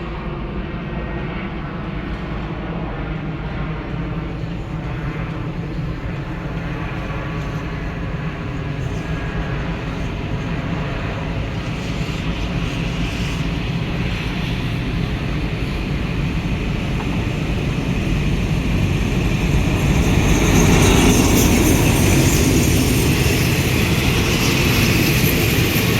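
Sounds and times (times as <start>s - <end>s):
train rumbling: 2.1s - 25.9s.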